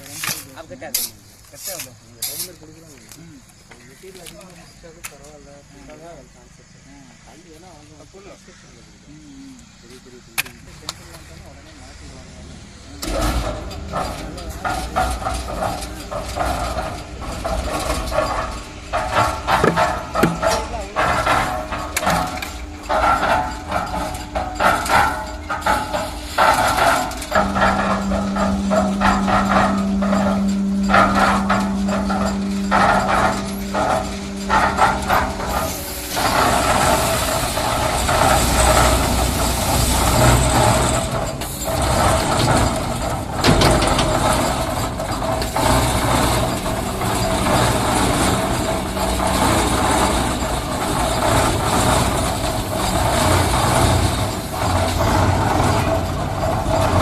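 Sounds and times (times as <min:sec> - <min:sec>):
concrete mixer engine running: 0:06.9 - 0:57.0.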